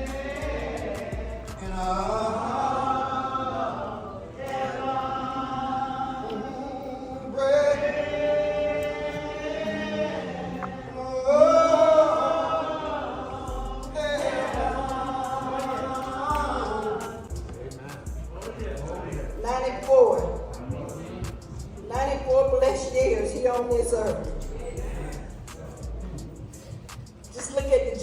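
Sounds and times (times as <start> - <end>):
slow gospel singing: 0.0 - 28.0.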